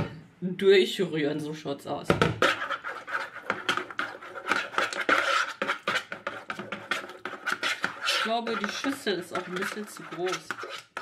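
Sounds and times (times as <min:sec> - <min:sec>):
spoon scraping plastic bowl: 0:02.1 - 0:11.0.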